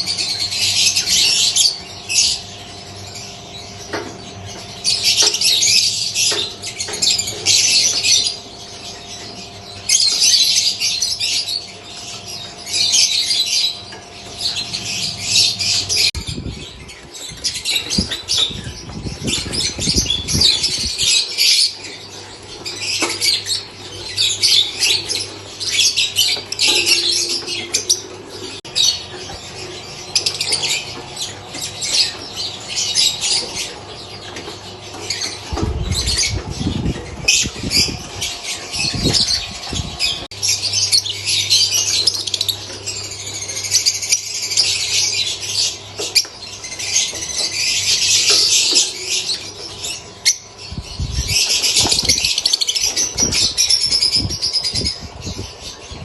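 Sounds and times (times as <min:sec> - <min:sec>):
lovebirds chirping and squawking: 0:00.0 - 0:56.0.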